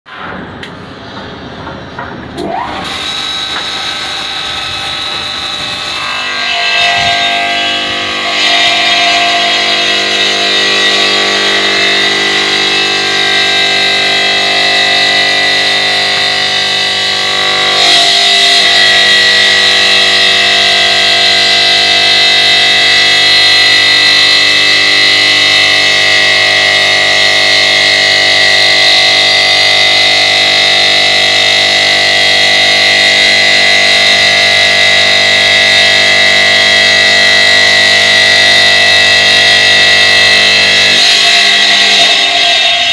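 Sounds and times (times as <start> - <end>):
stone saw high-pitched whine: 2.4 - 42.9.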